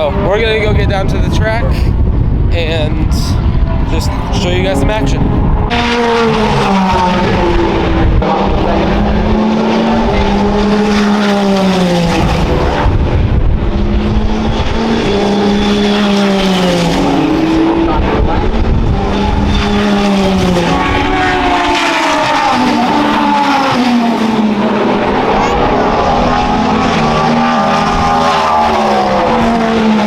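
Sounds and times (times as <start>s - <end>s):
race car engines shifting gears: 3.0s - 30.0s.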